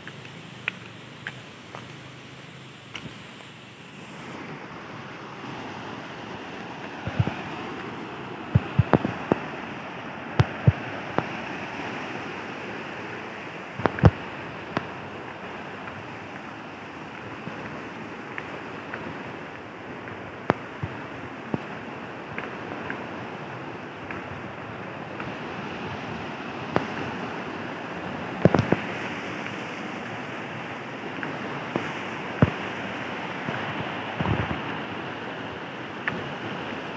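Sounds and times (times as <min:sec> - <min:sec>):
river rushing over stones: 0:00.0 - 0:36.9.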